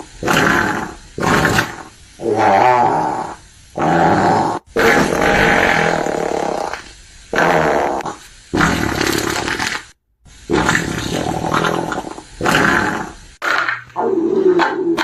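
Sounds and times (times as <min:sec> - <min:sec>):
long fart noises: 0:00.0 - 0:09.8, 0:10.5 - 0:15.0.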